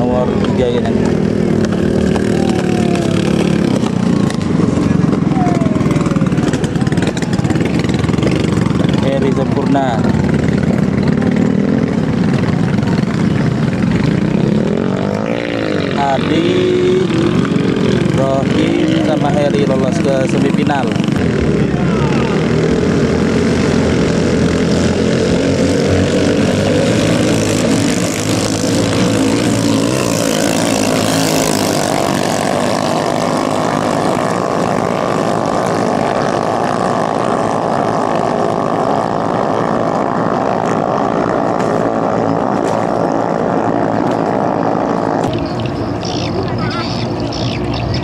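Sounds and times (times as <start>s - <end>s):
small outboard engines buzzing: 0.0s - 48.0s.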